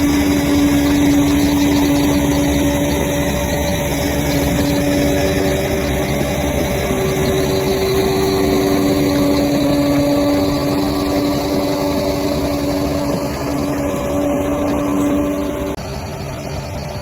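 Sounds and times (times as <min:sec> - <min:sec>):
bulldozer diesel engine running: 0:00.0 - 0:17.0
steady whine: 0:00.0 - 0:17.0.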